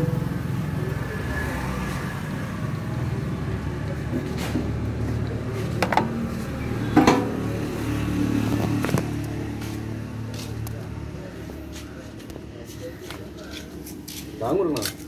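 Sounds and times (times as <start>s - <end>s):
diesel tractor engine idling: 0.0s - 13.4s.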